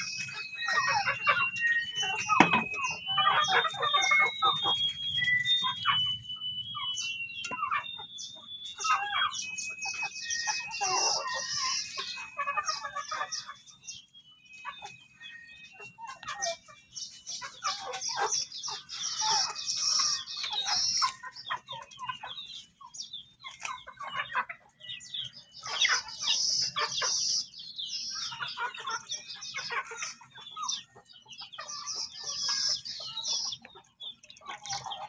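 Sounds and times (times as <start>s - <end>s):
chickens clucking: 0.0s - 35.0s
high thin peeping calls: 0.0s - 35.0s.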